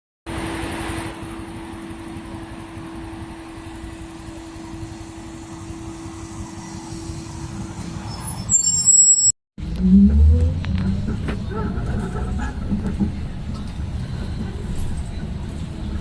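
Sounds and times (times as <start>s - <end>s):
electric bus interior hum: 0.3s - 16.0s.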